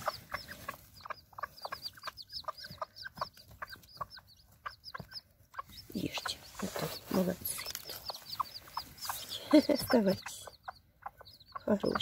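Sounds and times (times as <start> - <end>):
chicks peeping: 0.0 - 12.0
hen clucking softly: 0.0 - 12.0.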